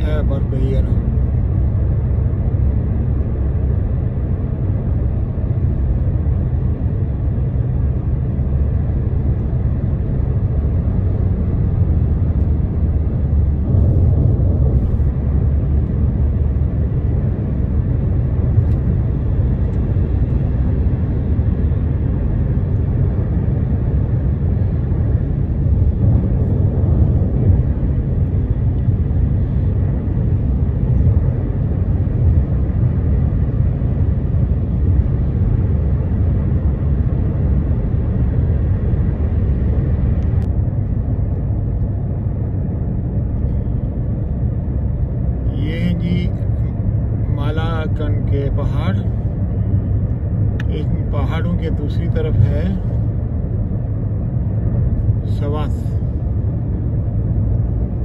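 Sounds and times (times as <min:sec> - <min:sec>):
road and tyre noise in car: 0:00.0 - 0:58.0.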